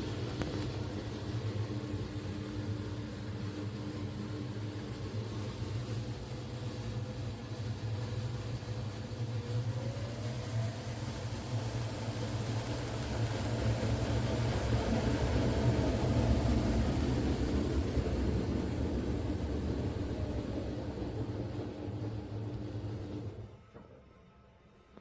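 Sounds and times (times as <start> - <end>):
washing machine humming: 0.0 - 23.9.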